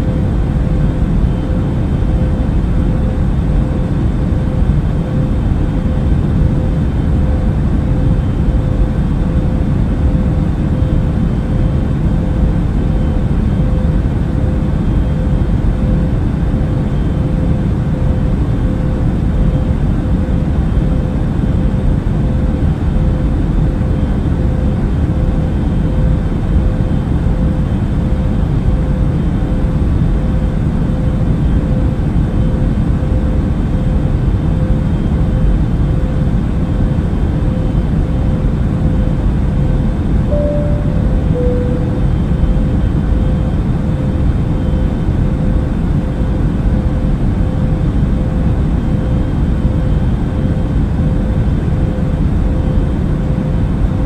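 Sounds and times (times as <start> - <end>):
airliner engine and air rumble: 0.0 - 54.0
constant cabin hum: 0.0 - 54.0.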